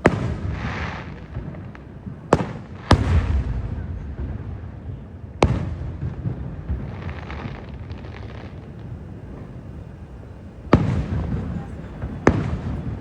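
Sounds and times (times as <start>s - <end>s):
faint firework crackling: 0.0s - 13.0s
firework bang echoing: 0.0s - 13.0s.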